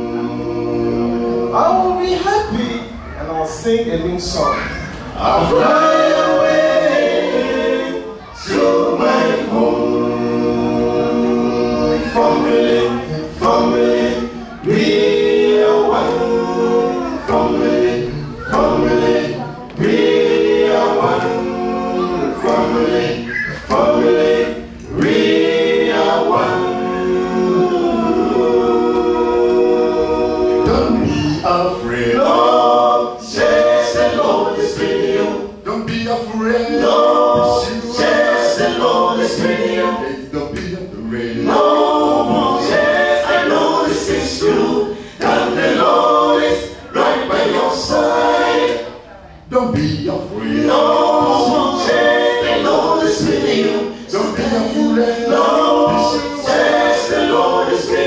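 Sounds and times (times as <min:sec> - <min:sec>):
a cappella group singing: 0:00.0 - 0:03.6, 0:04.5 - 0:58.0.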